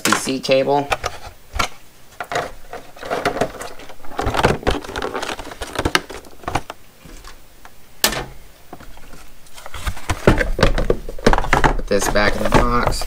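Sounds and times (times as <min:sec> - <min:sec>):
plastic tray crinkling: 0:00.0 - 0:07.4, 0:08.1 - 0:13.0.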